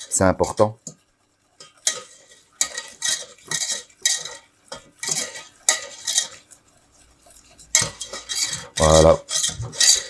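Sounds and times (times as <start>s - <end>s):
wire whisk scraping a metal pot: 0.0s - 10.0s.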